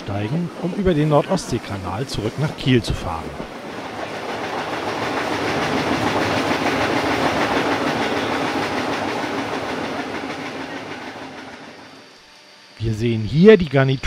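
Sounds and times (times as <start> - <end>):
train carriage rumbling and rattling: 0.0 - 12.0.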